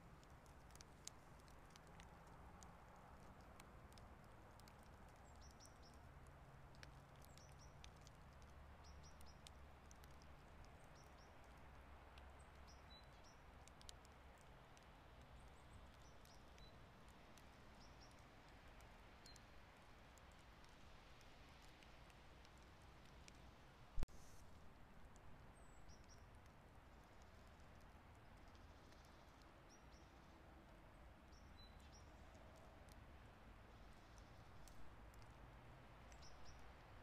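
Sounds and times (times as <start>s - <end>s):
faint ticks: 0.0s - 36.8s.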